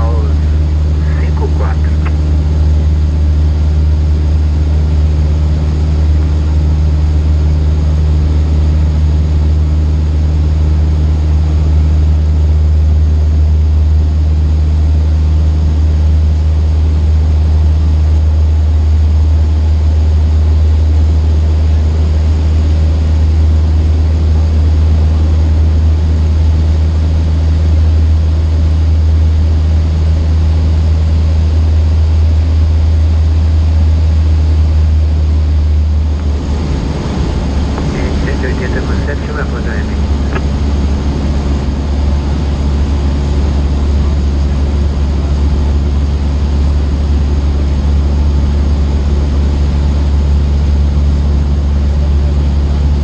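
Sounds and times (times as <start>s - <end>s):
light aircraft engine droning: 0.0s - 53.0s.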